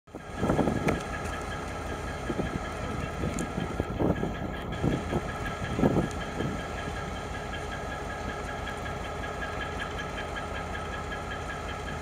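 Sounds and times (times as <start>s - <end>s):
diesel locomotive idling: 0.1s - 12.0s.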